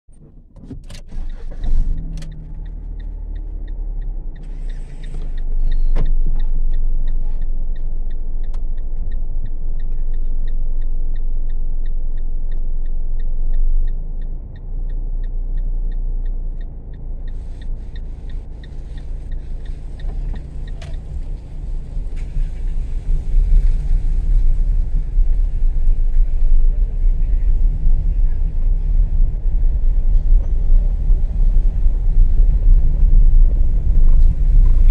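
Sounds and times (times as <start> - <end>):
car engine running: 0.1 - 34.9
road and tyre noise: 0.1 - 34.9
turn signal ticking: 0.1 - 34.9.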